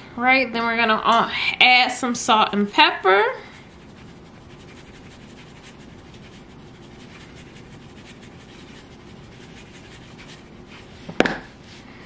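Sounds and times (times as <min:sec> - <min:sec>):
steady background hum: 0:00.0 - 0:12.0
faint irregular scratching: 0:02.1 - 0:11.9.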